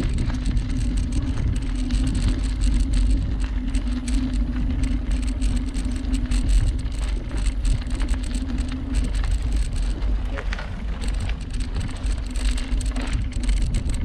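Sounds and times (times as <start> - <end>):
bicycle tyre noise: 0.0 - 14.0
small clicks and rattles: 0.0 - 14.0
steady hum: 0.0 - 14.0
wind rumble on microphone: 0.0 - 14.0.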